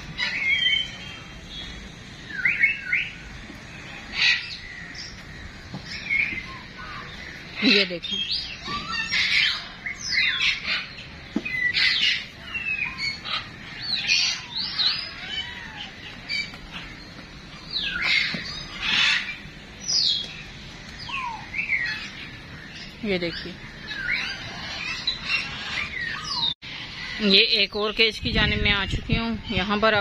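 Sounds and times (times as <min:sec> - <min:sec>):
birds squawking and chirping: 0:00.0 - 0:30.0.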